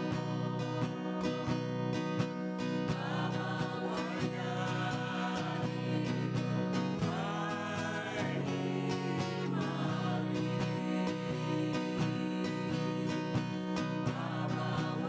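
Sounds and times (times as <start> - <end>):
person singing: 0.0 - 15.0
strummed acoustic guitar: 0.0 - 15.0.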